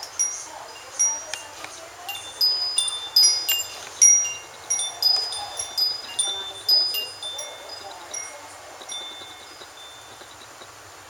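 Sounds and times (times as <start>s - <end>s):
wind chimes ringing: 0.0s - 10.8s.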